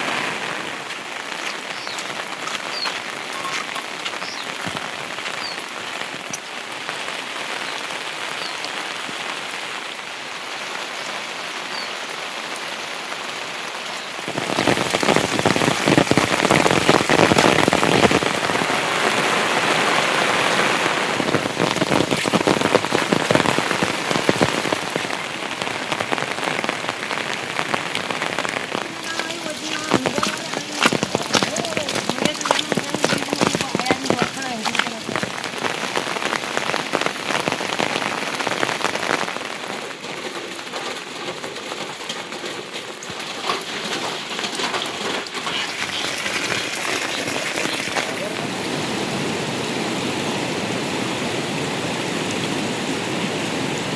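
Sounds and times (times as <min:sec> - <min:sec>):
heavy rain falling: 0:00.0 - 0:53.9
raindrops striking close by: 0:00.0 - 0:53.9.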